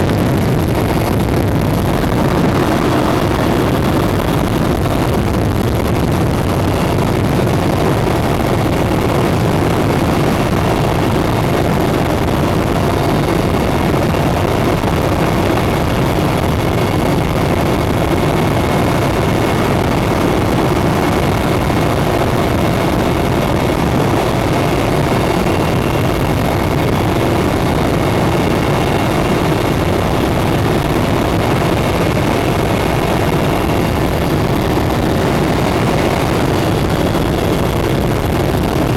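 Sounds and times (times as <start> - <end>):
helicopter cabin drone: 0.0 - 38.9.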